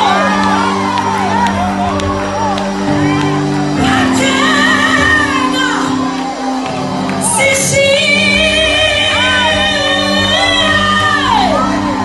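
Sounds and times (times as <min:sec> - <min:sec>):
low accompaniment notes: 0:00.0 - 0:12.0.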